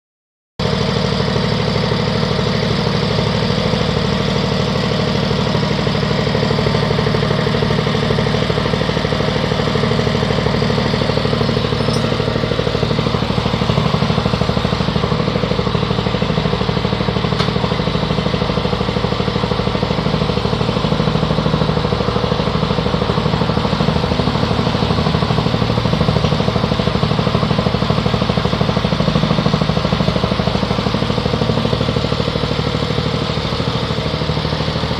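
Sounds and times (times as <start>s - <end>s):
motor-driven pellet machine running: 0.7s - 34.9s.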